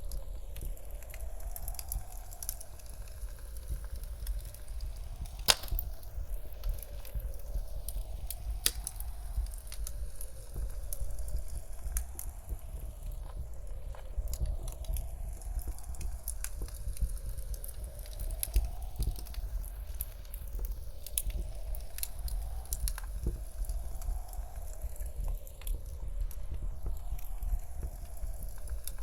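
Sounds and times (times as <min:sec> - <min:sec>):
faint wind howl: 0:00.0 - 0:29.0
low rumble of blizzard wind: 0:00.0 - 0:29.0
wood fire crackling and popping: 0:00.0 - 0:29.0.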